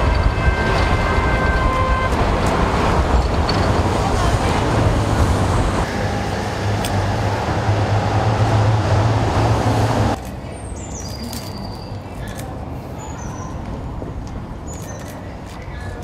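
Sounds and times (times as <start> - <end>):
street traffic engine hum: 0.0 - 16.0.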